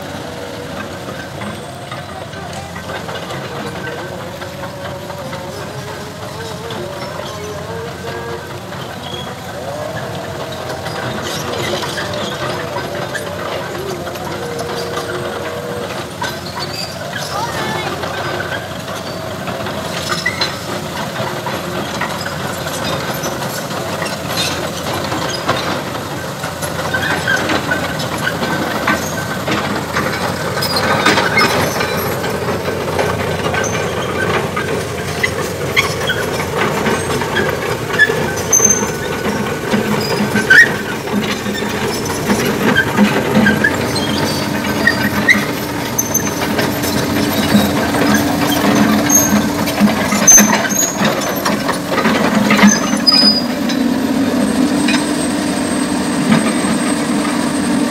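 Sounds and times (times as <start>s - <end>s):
excavator diesel engine running: 0.0s - 57.9s
flowing canal water: 0.0s - 57.9s
metallic clanks and squeals of tracks: 0.0s - 57.9s
steady engine drone: 0.0s - 57.9s.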